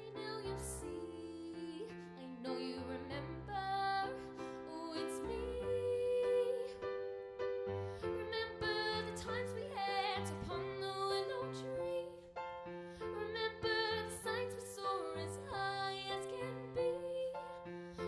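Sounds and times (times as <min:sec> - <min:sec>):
woman singing: 0:00.0 - 0:07.1, 0:08.0 - 0:12.4, 0:13.0 - 0:18.0
grand piano chords: 0:00.0 - 0:18.0.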